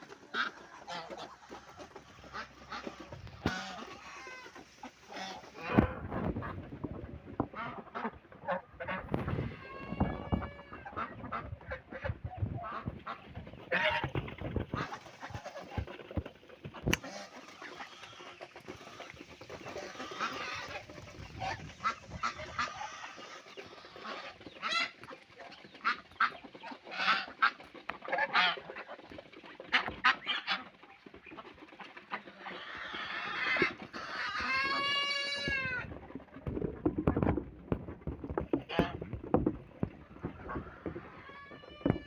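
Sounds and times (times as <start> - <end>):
poultry calling: 0.0 - 6.6, 7.4 - 37.4, 38.0 - 42.0.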